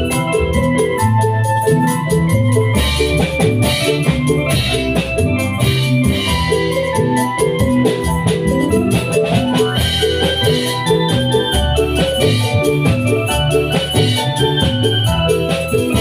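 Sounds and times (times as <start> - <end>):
bass line: 0.0 - 16.0
electronic keyboard organ melody: 0.0 - 16.0
steady drum beat: 0.0 - 16.0.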